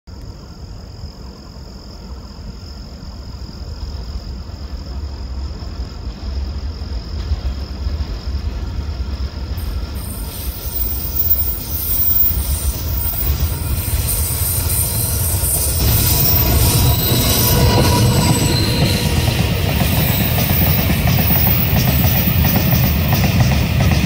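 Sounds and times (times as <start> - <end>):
freight train rumble: 0.1 - 24.0
train hiss: 0.2 - 24.0.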